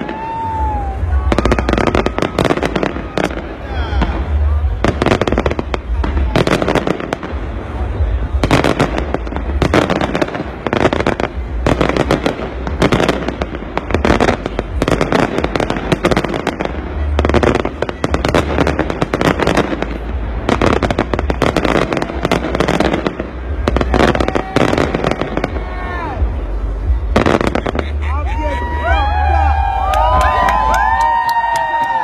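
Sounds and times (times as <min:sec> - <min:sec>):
low rumble: 0:00.0 - 0:31.0
fireworks crackling and popping: 0:00.0 - 0:32.0.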